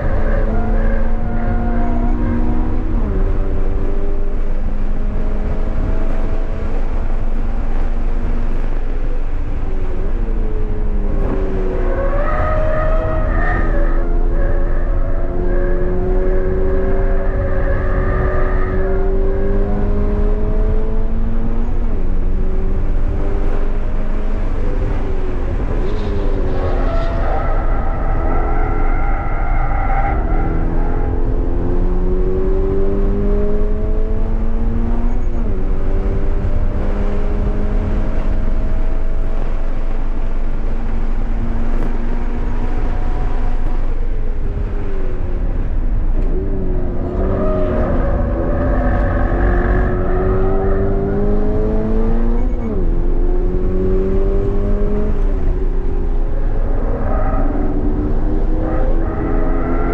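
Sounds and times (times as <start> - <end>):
car engine at full throttle: 0.0 - 59.9
road and wind rumble: 0.0 - 59.9.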